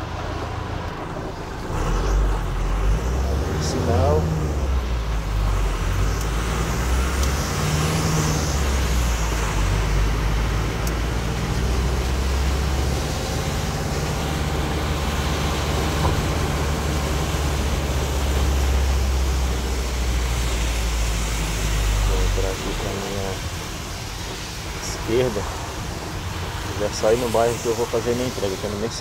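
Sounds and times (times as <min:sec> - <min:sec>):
rain: 0:00.0 - 0:29.0
tyres hissing on wet road: 0:00.0 - 0:29.0
vehicle engine rumble: 0:00.0 - 0:29.0.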